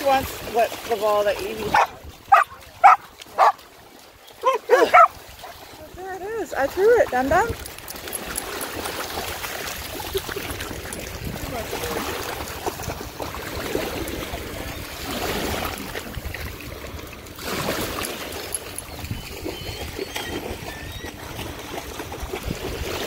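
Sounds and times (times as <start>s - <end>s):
dogs splashing through water: 0.0s - 23.0s.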